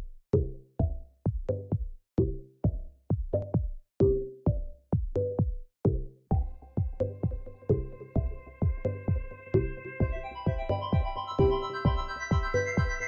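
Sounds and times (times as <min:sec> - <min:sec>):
electronic music with bass: 0:00.4 - 0:13.0.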